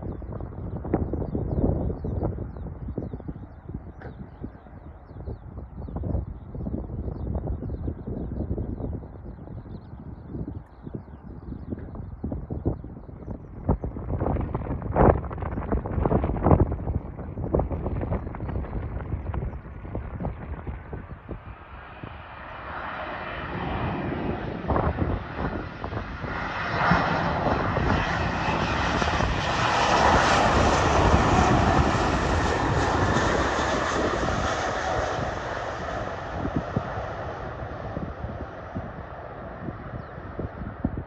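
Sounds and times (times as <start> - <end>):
airliner engine noise: 0.0 - 41.0.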